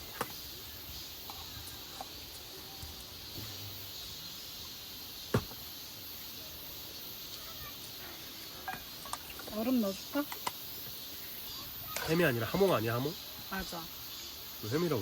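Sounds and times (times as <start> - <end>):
faint insect chirring: 0.0 - 15.0.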